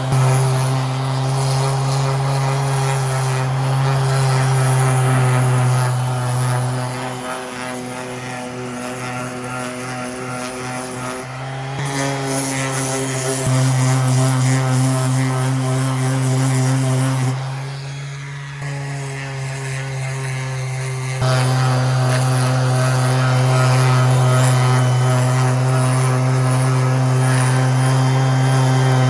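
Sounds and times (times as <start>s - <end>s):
orbital sander motor hum: 0.0s - 29.0s.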